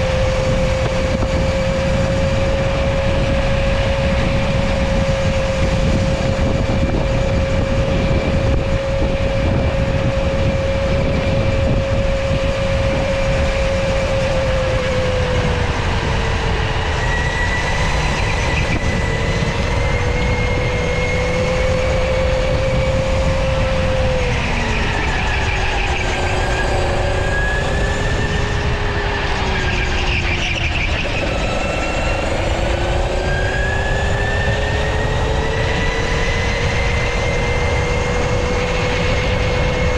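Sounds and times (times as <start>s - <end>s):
electric go-kart motor whining: 0.0s - 39.9s
low rumble: 0.0s - 39.9s.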